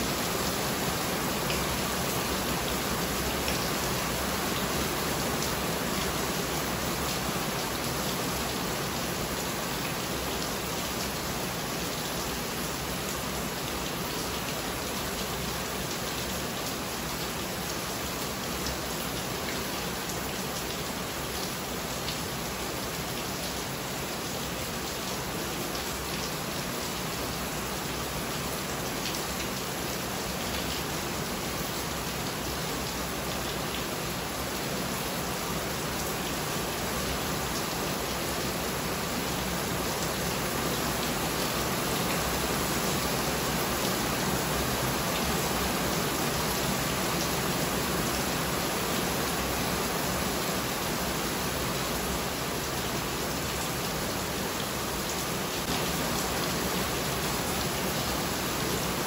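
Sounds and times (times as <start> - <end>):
steady rain on a roof: 0.0 - 59.0.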